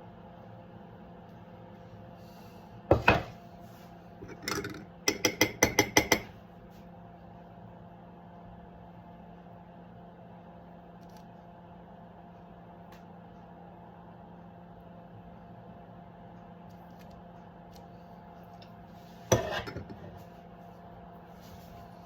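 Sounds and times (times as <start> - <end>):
appliance hum: 0.0 - 22.0.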